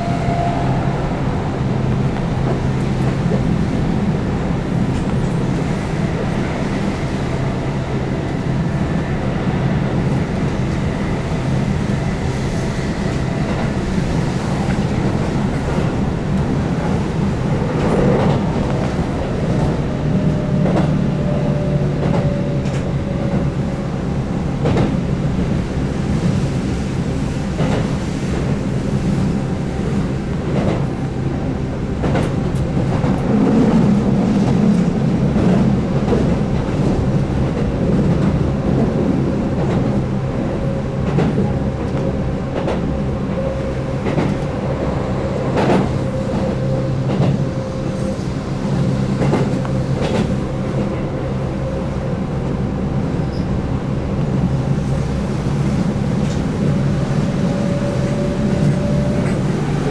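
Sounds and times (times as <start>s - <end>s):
train rumble inside car: 0.0s - 59.9s.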